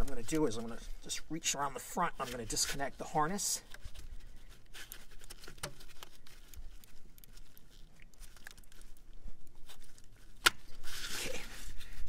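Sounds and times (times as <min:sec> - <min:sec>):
hand rustling among wiring: 0:00.0 - 0:12.0.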